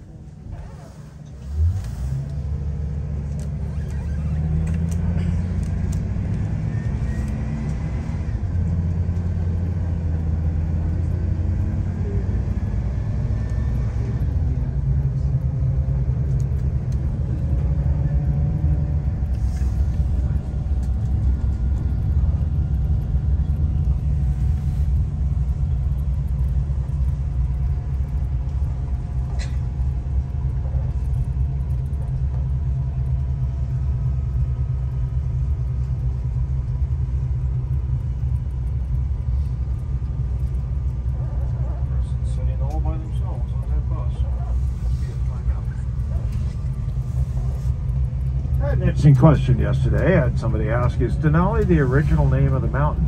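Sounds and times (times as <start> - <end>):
bus engine droning: 0.0 - 53.0.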